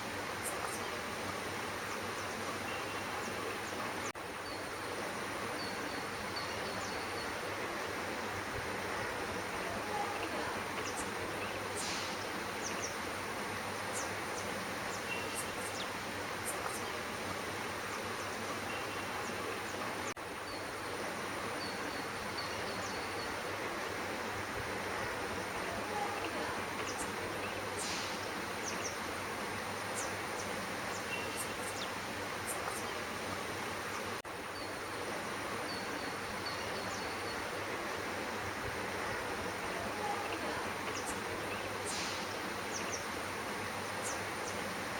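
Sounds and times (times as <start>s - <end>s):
outdoor background hiss: 0.0s - 44.9s.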